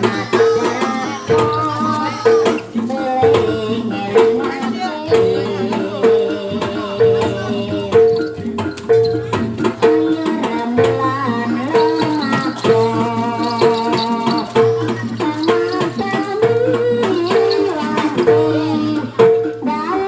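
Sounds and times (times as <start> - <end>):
drum strokes: 0.0 - 19.6.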